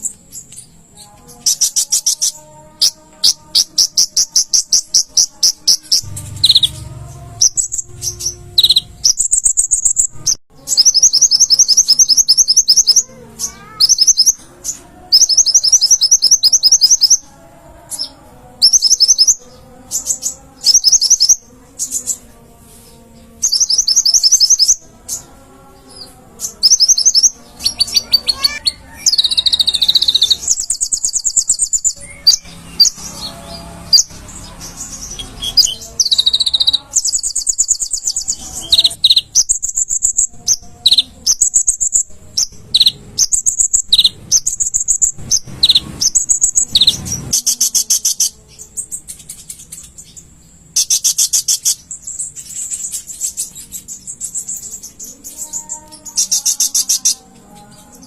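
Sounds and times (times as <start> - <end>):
bird singing rapid high trills: 0.0 - 58.0.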